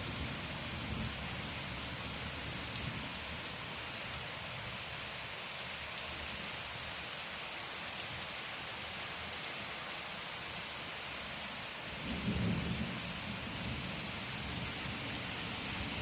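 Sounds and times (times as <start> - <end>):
raindrops striking close by: 0.0 - 16.0
steady rain: 0.0 - 16.0.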